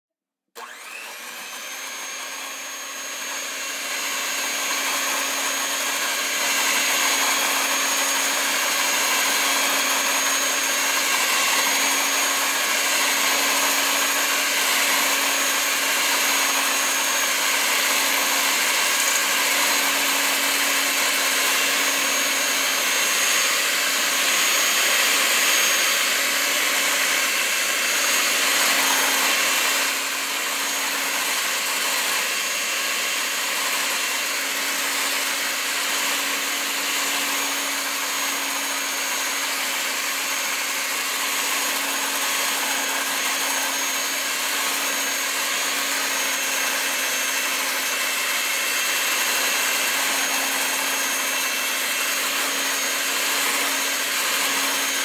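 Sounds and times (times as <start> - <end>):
electric beater whining: 0.6 - 55.0.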